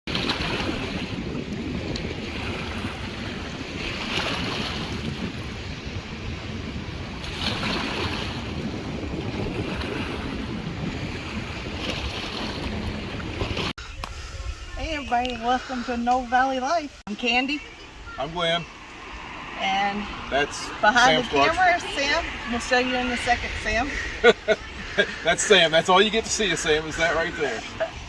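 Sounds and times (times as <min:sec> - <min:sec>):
wind rumbling on microphone: 0:00.1 - 0:28.0.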